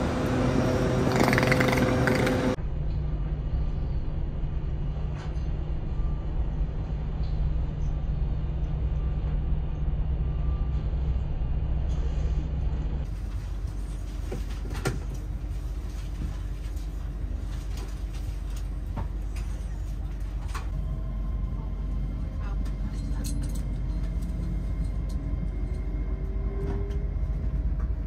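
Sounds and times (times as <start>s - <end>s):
train carriage hum and rumble: 0.0s - 28.0s.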